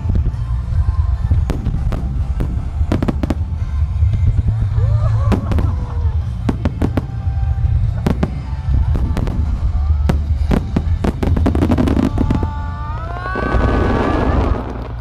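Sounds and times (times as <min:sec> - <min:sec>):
fireworks bursting: 0:00.0 - 0:15.0
low rumble: 0:00.0 - 0:15.0.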